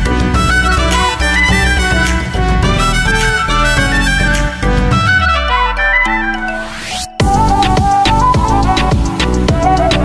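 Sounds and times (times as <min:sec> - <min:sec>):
instrumental music with strong bass: 0:00.0 - 0:10.0.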